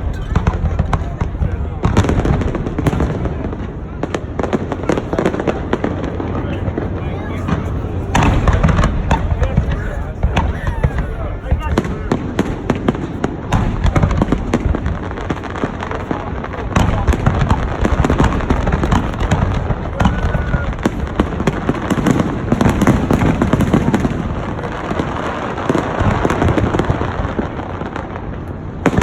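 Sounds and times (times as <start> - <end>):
crowd voices: 0.0 - 29.0
fireworks bangs and crackles: 0.0 - 29.0.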